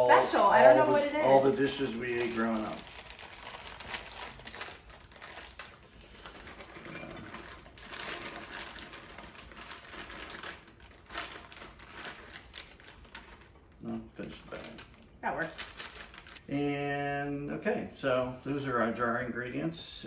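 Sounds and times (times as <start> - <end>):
plastic bag crinkling: 0.1 - 16.6.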